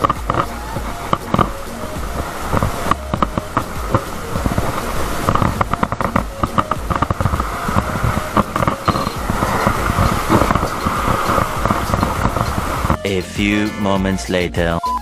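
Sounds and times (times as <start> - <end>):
fire crackling and popping: 0.0 - 13.1
low steady rumble: 0.0 - 13.6.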